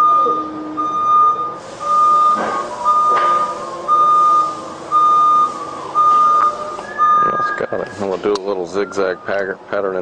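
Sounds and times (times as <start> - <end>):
reversing alarm beeping: 0.0 - 9.8.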